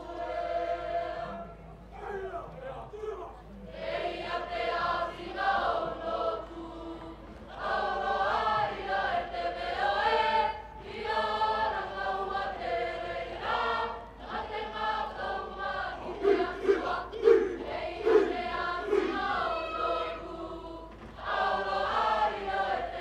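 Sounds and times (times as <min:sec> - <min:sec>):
choir singing: 0:00.0 - 0:02.3, 0:03.5 - 0:23.0.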